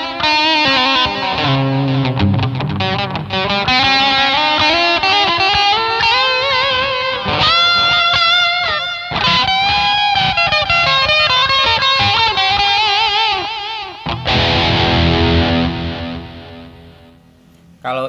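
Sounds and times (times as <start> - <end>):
electric guitar lead line: 0.0 - 17.5.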